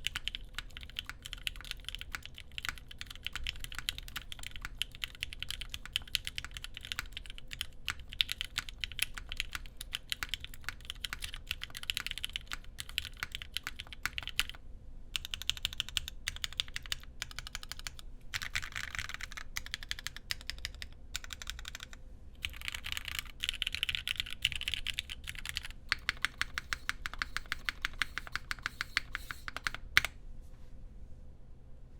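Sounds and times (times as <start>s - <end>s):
mechanical keyboard typing: 0.0s - 14.6s, 15.2s - 30.1s.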